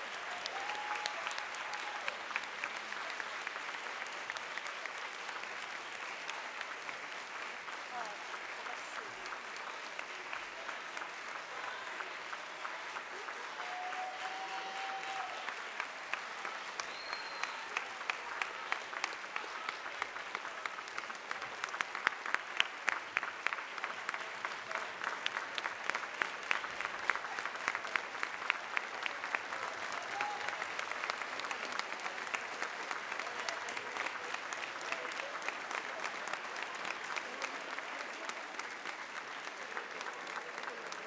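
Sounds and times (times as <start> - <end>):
audience applauding: 0.0 - 41.0.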